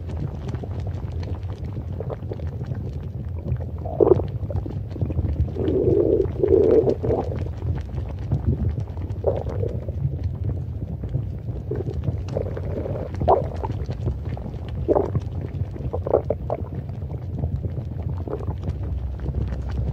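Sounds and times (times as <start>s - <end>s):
stomach gurgling: 0.0s - 19.9s.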